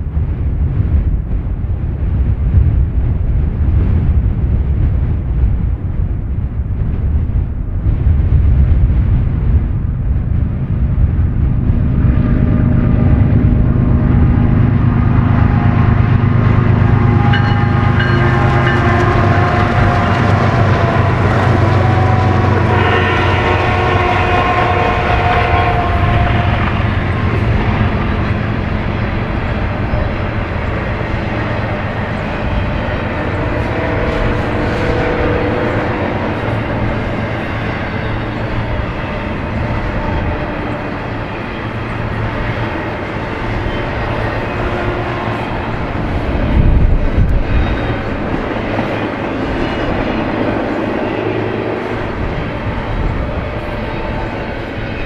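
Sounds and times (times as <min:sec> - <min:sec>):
diesel locomotives rumbling past: 0:00.0 - 0:55.0.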